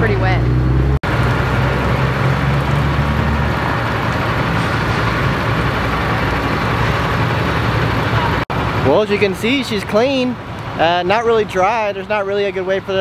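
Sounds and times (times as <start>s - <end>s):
heavy vehicle engine idling: 1.0s - 13.0s.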